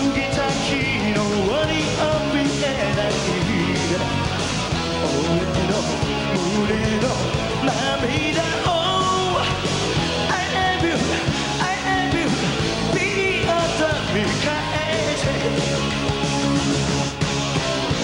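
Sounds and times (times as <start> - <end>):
male lead vocal: 0.0 - 16.3
bass guitar: 0.0 - 18.0
drums: 0.0 - 18.0
electric guitar: 0.0 - 18.0.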